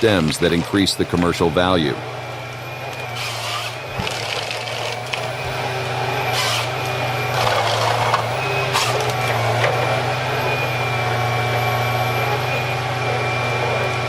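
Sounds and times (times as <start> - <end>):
harvester engine humming: 0.0 - 14.0.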